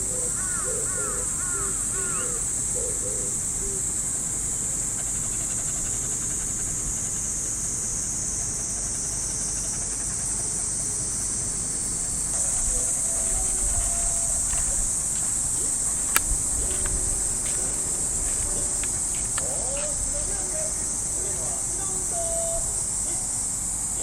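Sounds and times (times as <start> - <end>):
cicadas buzzing: 0.0 - 24.0
low background rumble: 1.2 - 24.0.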